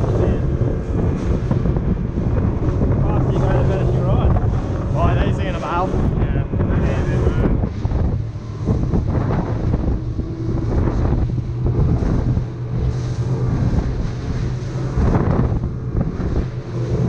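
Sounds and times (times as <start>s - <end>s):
hull slapping through waves: 0.0s - 17.0s
outboard motor droning: 0.0s - 17.0s
wind buffeting microphone: 0.0s - 17.0s.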